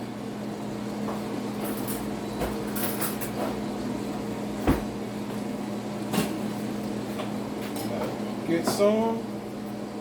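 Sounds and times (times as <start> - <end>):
kitchen hum: 0.0 - 10.0.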